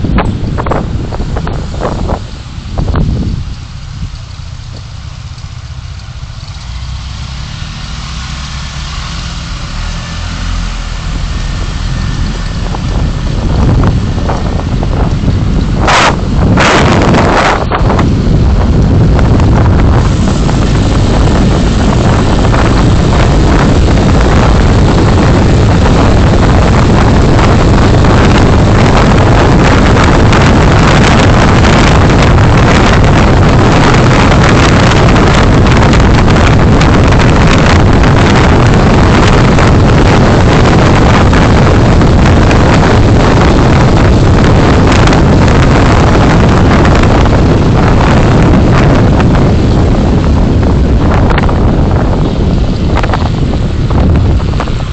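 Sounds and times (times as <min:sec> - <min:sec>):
car wind and road noise: 0:00.0 - 0:54.9
wind buffeting microphone: 0:00.0 - 0:54.9.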